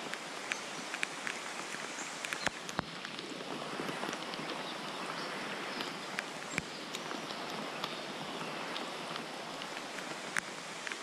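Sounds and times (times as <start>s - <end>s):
rain hissing on water: 0.0s - 11.0s
raindrops ticking nearby: 0.0s - 11.0s.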